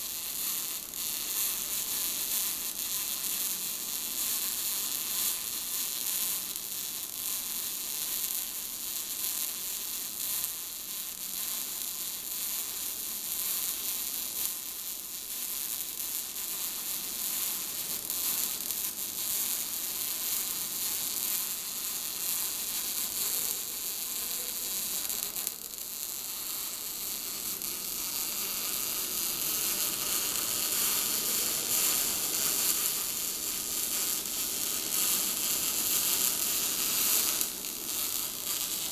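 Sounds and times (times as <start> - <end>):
welding arc sizzling: 0.0 - 38.9.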